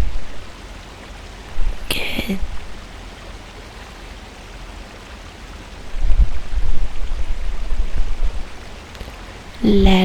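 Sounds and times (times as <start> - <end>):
low uneven rumble: 0.0 - 10.0
running water hiss: 0.0 - 10.0.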